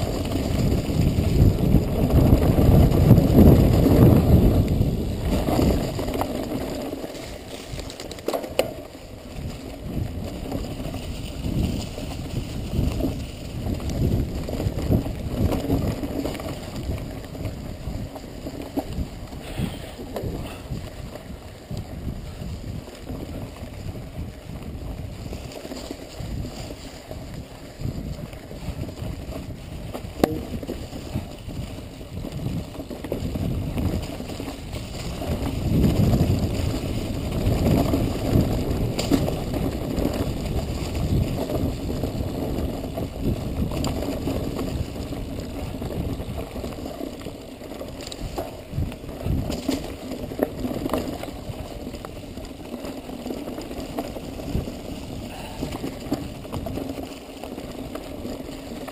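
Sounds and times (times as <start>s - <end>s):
mountain bike rattling: 0.0s - 58.9s
tyres rumbling over rocky trail: 0.0s - 58.9s
wind buffeting microphone: 0.0s - 58.9s.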